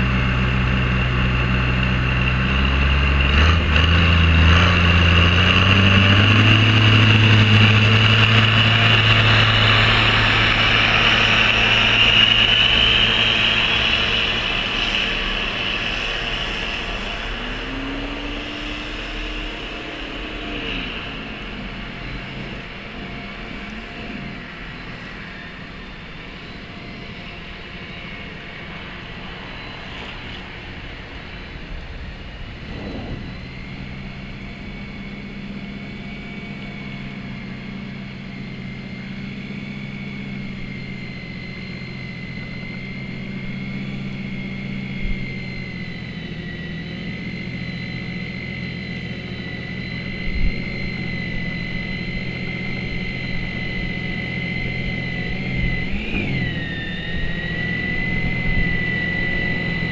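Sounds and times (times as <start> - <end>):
snow blower running: 0.0 - 59.9.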